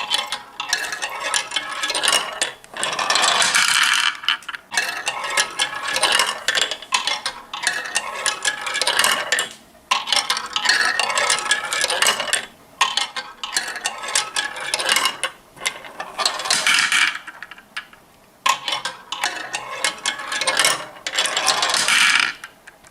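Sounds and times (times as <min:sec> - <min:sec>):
marbles rattling down a track: 0:00.0 - 0:17.9, 0:18.5 - 0:22.5.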